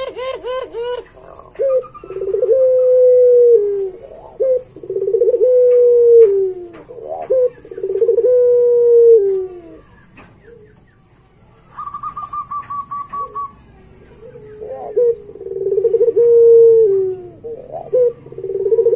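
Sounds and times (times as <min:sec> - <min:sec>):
dove cooing with trill: 0:00.0 - 0:10.8, 0:11.7 - 0:18.9.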